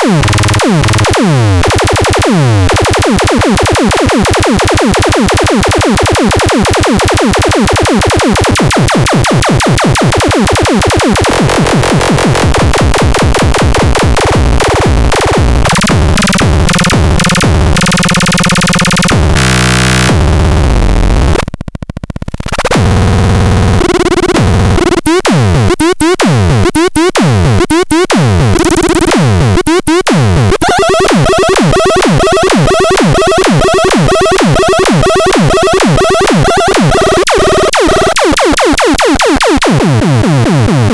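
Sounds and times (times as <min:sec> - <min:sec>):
harsh synthesized noise: 0:00.0 - 0:40.9.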